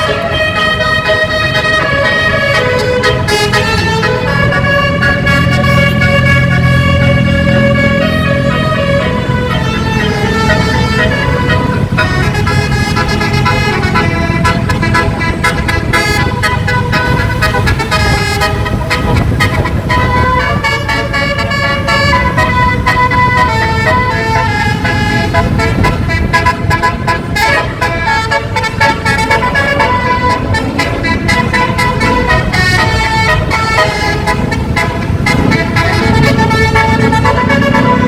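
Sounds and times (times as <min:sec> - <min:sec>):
bus horn playing a tune: 0:00.0 - 0:38.0.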